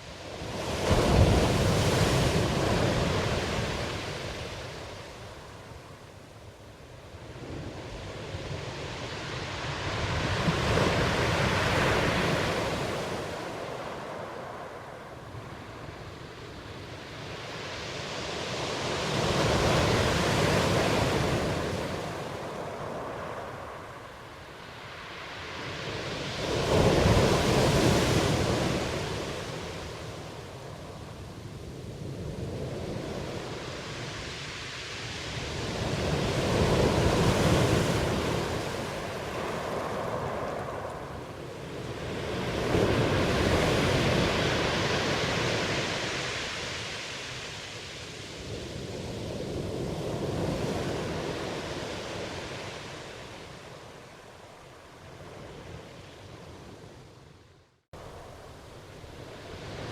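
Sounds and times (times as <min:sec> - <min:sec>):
ocean waves breaking: 0:00.0 - 0:06.0, 0:07.2 - 0:56.9, 0:58.0 - 0:59.9.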